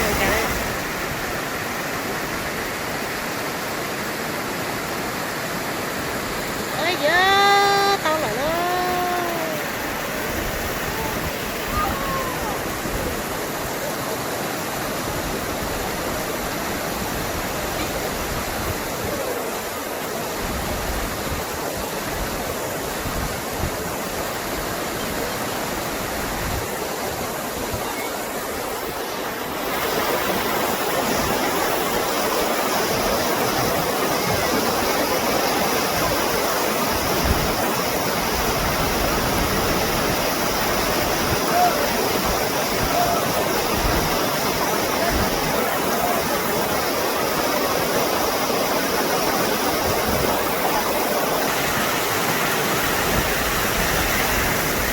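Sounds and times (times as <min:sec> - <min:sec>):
rushing river water: 0:00.0 - 0:54.9.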